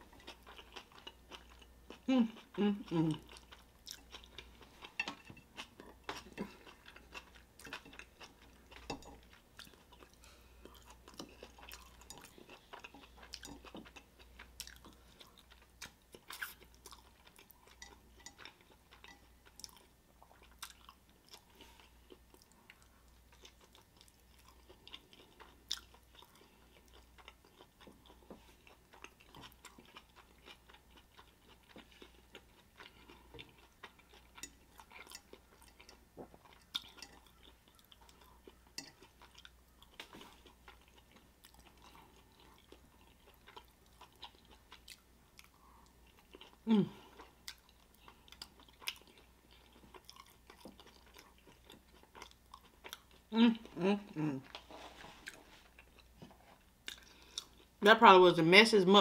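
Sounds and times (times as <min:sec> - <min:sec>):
chewing and mouth sounds: 0:00.0 - 0:57.8.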